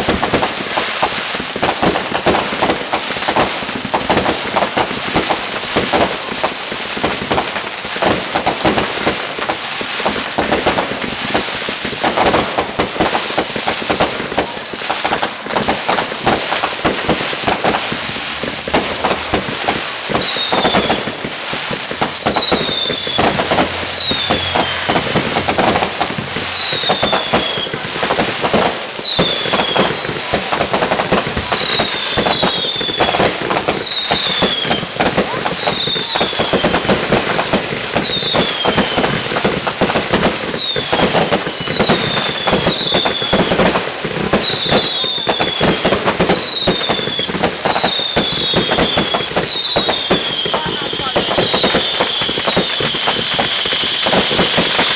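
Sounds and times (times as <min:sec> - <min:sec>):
falling firework whistles: 0:00.0 - 0:54.9
fireworks crackling and popping: 0:00.0 - 0:54.9.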